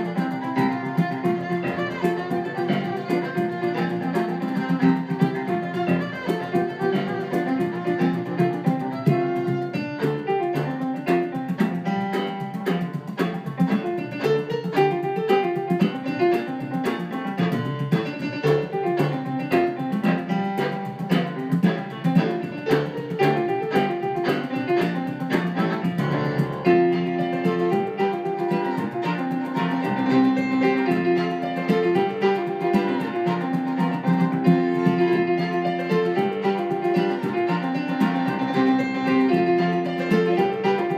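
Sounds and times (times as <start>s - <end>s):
chordal piano accompaniment: 0.0s - 40.9s
fiddle playing a lively tune: 0.0s - 40.9s.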